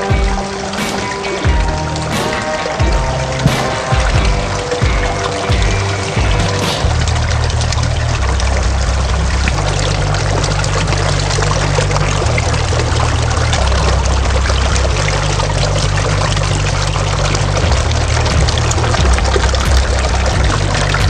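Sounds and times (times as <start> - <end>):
waterfall splashing over stones: 0.0 - 21.0.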